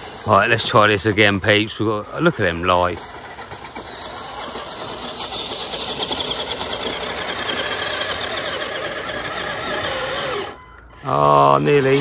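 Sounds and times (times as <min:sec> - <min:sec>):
toy truck electric motor whining: 0:00.0 - 0:12.0.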